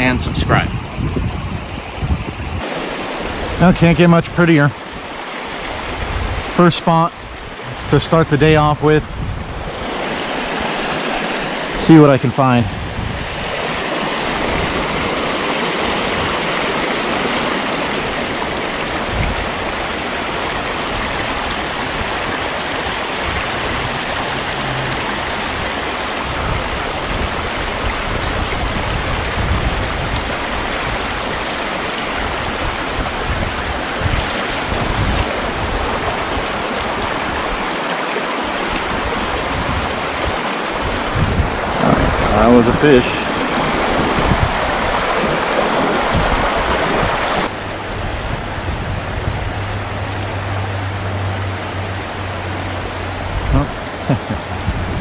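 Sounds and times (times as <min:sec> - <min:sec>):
creek water rushing: 0:00.0 - 0:54.8.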